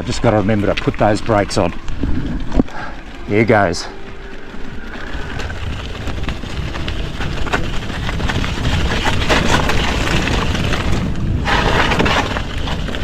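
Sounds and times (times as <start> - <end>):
tyres crunching over rough ground: 0.0 - 13.0
wind buffeting microphone: 0.0 - 13.0.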